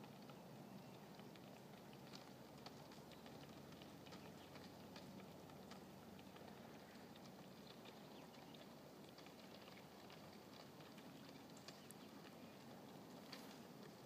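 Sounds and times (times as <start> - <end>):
low steady hiss: 0.0 - 14.0
river ice crackling: 0.0 - 14.0.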